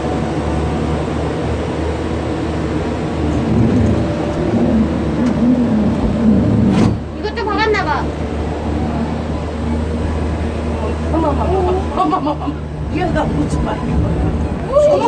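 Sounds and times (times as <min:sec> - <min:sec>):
cable car mechanical hum: 0:00.0 - 0:15.0.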